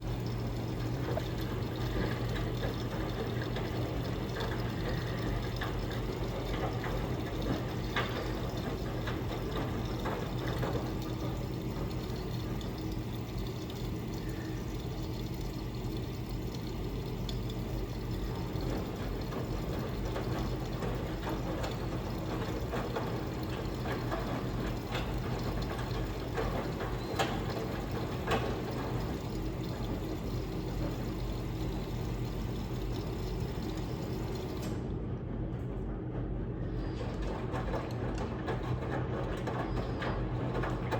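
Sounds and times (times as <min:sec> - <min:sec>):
water running into drum: 0:00.0 - 0:34.7, 0:36.8 - 0:40.9
washing machine low hum: 0:00.0 - 0:40.9.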